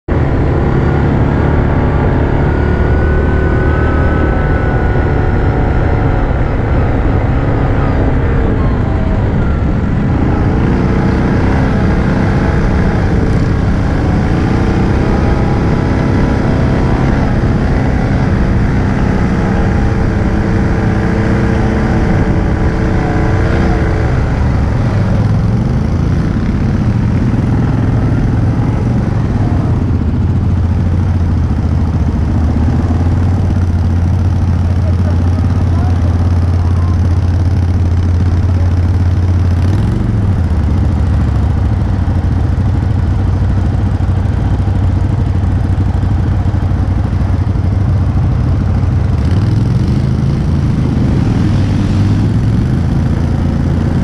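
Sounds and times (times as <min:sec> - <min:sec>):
atv engine revving: 0:00.1 - 0:54.0.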